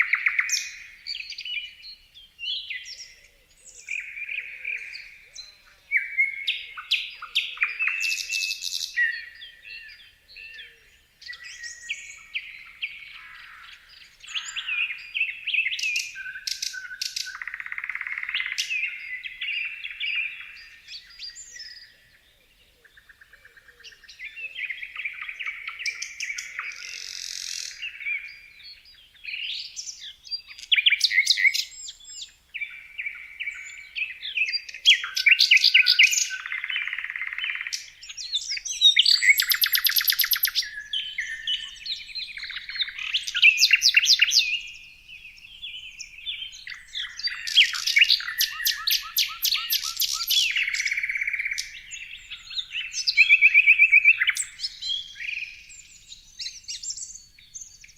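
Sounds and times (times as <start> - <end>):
songbirds singing and chirping: 0.0 - 57.9.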